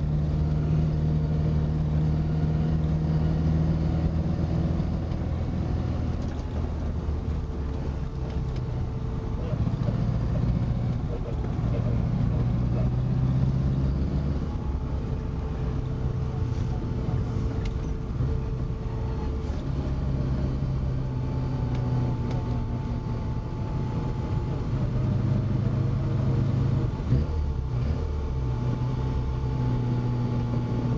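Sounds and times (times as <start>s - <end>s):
car engine running under load: 0.0s - 30.9s.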